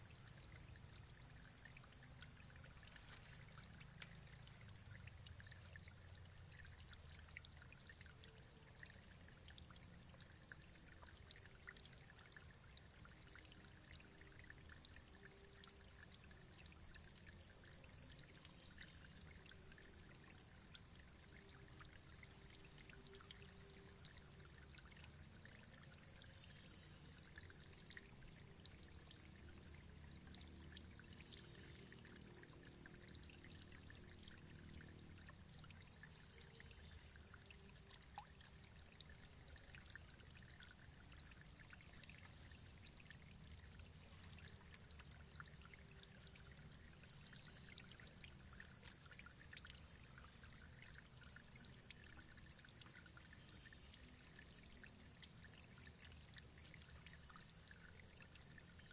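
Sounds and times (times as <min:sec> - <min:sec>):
water pouring and trickling: 0:00.0 - 0:58.9.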